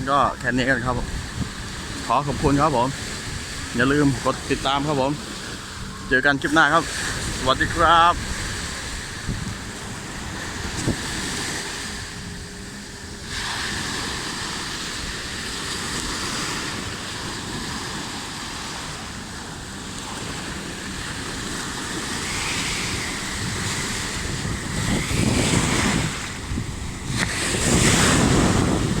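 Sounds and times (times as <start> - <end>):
waves breaking on beach: 0.0 - 29.0
wind buffeting microphone: 0.0 - 29.0.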